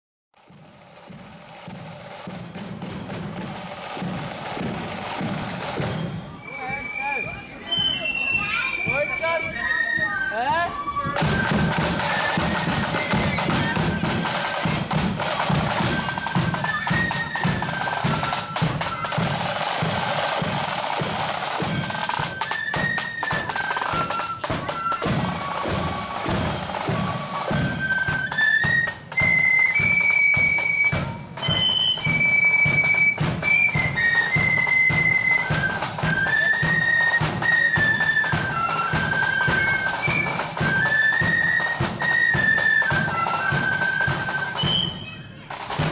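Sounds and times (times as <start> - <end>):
steady drum beat: 0.4 - 7.6, 8.8 - 44.9, 45.5 - 45.9
snare drums: 0.4 - 45.9
flutes playing melody: 4.0 - 45.9.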